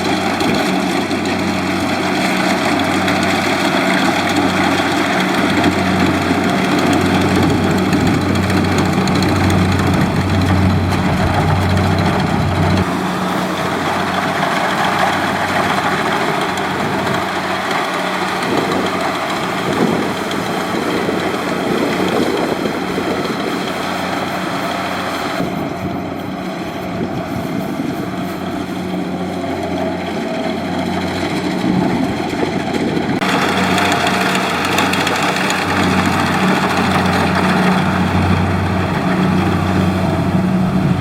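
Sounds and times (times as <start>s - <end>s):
diesel engine humming: 0.0s - 41.0s.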